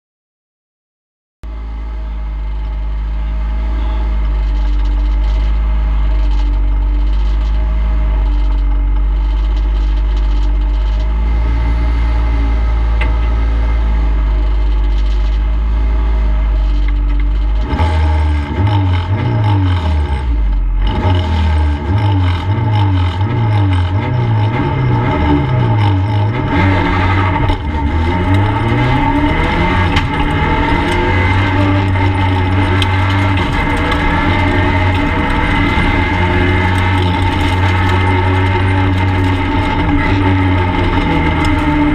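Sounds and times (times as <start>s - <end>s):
car engine idling: 1.5s - 17.8s, 22.0s - 41.9s.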